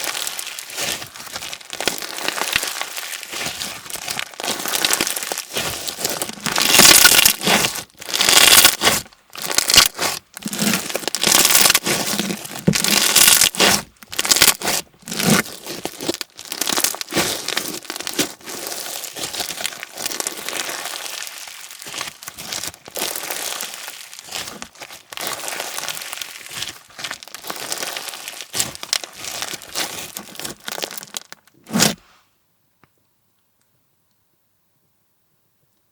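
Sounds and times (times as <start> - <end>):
crunchy slime being squeezed: 0.0 - 32.0.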